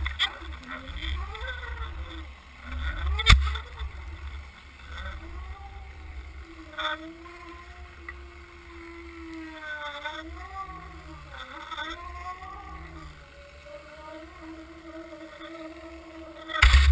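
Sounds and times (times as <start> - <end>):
boat motor hum underwater: 0.0 - 16.9.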